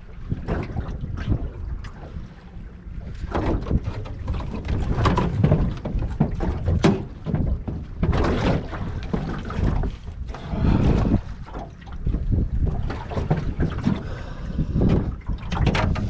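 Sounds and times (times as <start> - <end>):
knocks and rustles in boat: 0.0 - 16.0
water slapping boat hull: 0.0 - 16.0
wind buffeting microphone: 0.0 - 16.0.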